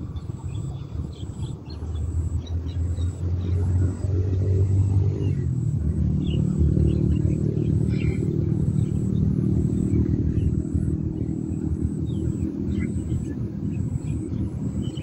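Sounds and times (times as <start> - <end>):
low motor rumble: 0.0 - 15.0.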